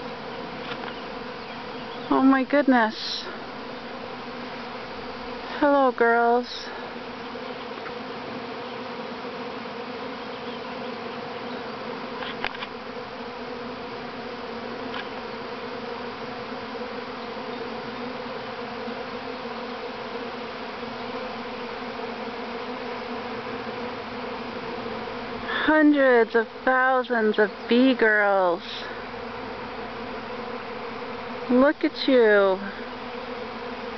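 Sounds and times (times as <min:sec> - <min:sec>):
bee swarm buzzing: 0:00.0 - 0:33.9.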